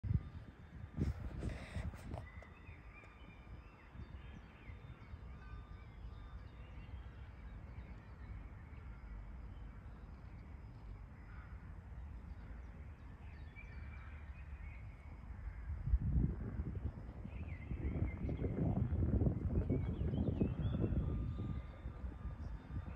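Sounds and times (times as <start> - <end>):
wind rumble on microphone: 0.0 - 22.9.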